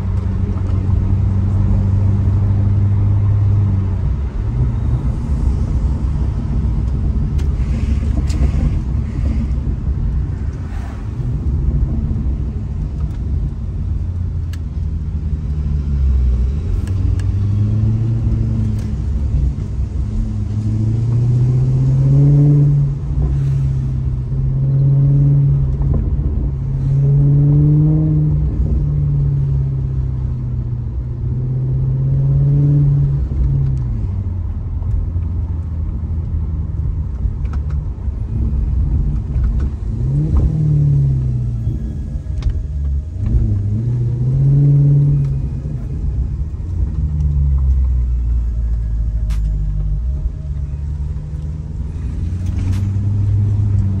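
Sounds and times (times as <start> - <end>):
car engine accelerating: 0.0 - 54.0
low road rumble: 0.0 - 54.0.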